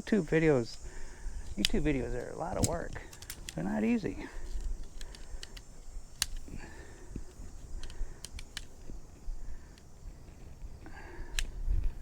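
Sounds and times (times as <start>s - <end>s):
tent poles clicking and tapping: 1.4s - 12.0s.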